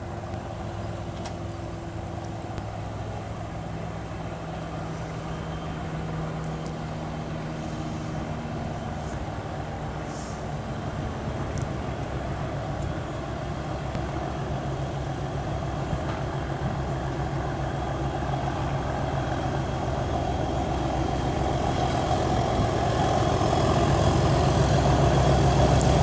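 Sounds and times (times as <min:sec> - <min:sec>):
distant diesel locomotive drone: 0:00.0 - 0:26.0.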